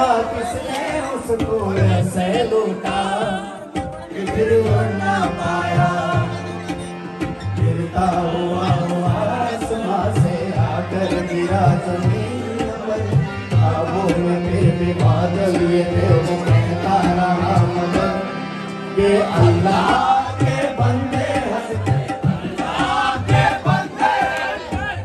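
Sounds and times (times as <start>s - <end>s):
man singing into microphone: 0.0s - 22.6s
harmonium: 0.0s - 25.0s.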